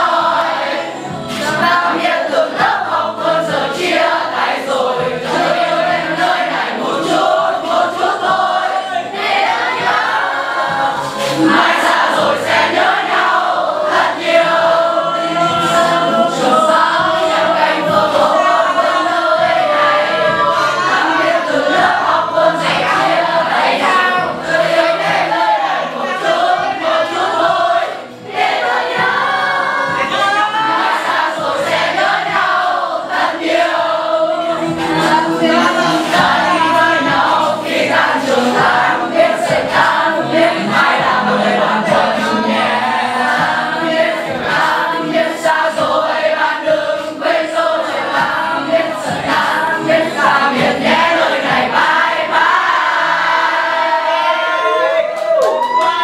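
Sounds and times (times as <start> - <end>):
choir singing with accompaniment: 0.0 - 55.0.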